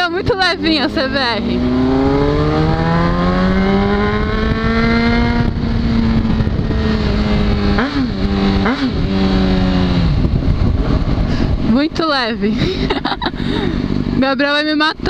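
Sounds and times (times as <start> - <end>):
wind noise: 0.0 - 14.2
sport bike engine revving: 0.0 - 15.0.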